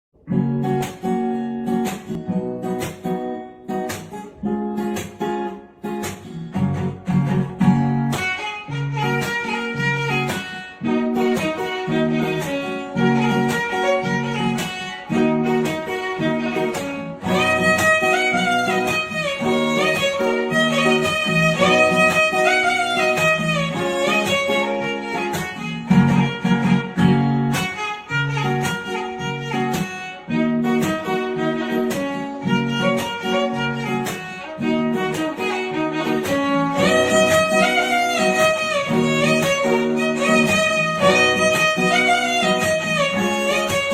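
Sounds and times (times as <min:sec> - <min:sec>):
plucked guitar: 0:00.1 - 0:43.9
bowed violin melody: 0:06.8 - 0:43.9.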